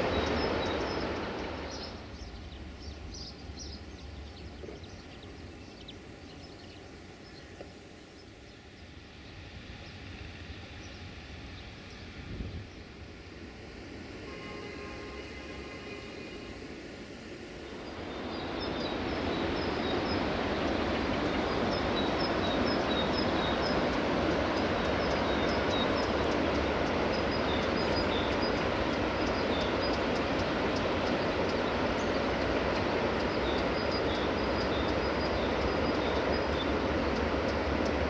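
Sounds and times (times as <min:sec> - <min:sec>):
small birds chirping: 0:00.0 - 0:13.0, 0:17.7 - 0:38.0
steady noise: 0:00.0 - 0:38.0.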